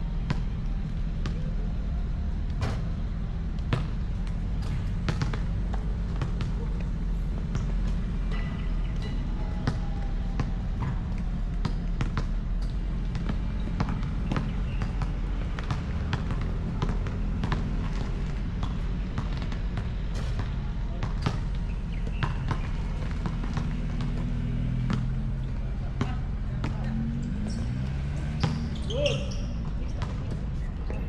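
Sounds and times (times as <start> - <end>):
basketball bouncing on court: 0.1 - 31.0.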